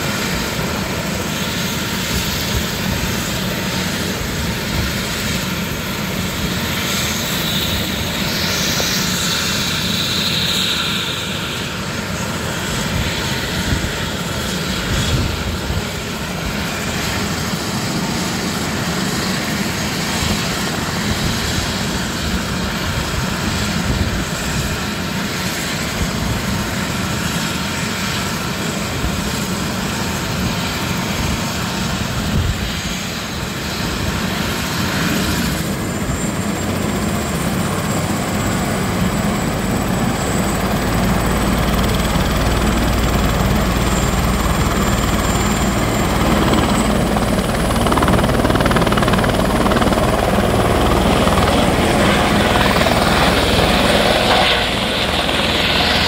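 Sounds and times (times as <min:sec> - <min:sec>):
helicopter engine whine: 0:00.0 - 0:56.0
helicopter rotor turning: 0:00.0 - 0:56.0.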